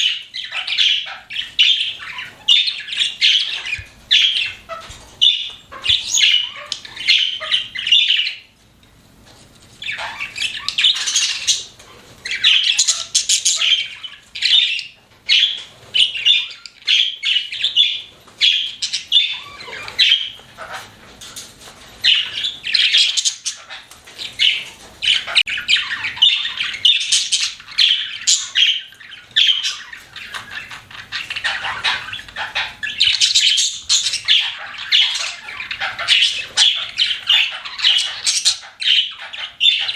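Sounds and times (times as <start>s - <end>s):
budgerigars chirping: 0.0s - 8.6s, 9.7s - 39.9s.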